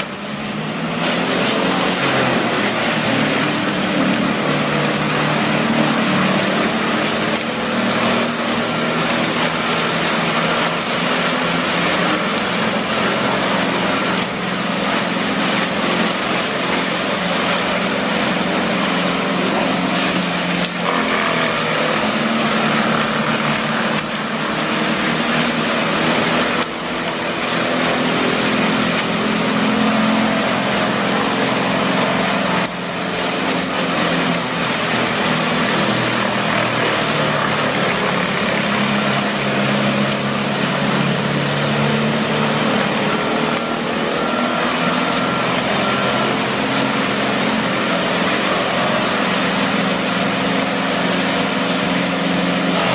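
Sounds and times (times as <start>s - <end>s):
wood being chipped: 0.0s - 52.9s
wood chipper engine drone: 0.0s - 52.9s.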